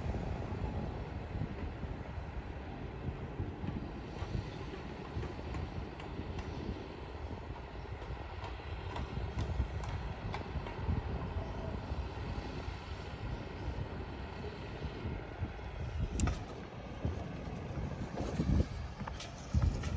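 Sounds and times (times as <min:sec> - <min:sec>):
crane engine rumbling: 0:00.0 - 0:19.9.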